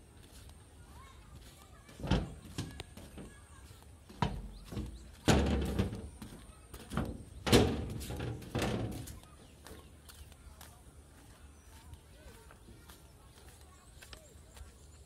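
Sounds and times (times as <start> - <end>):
footsteps on ballast: 0.0 - 15.0.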